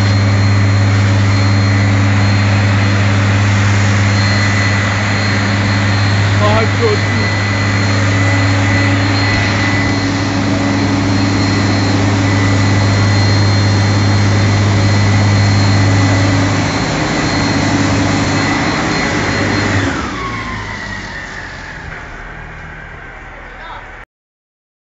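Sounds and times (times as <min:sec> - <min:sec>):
fire engine running with whine: 0:00.0 - 0:24.1.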